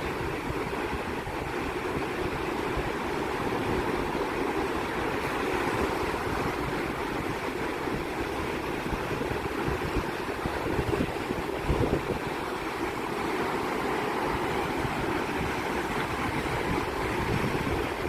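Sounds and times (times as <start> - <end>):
sea surf breaking: 0.0 - 18.0
wind buffeting microphone: 0.0 - 18.0.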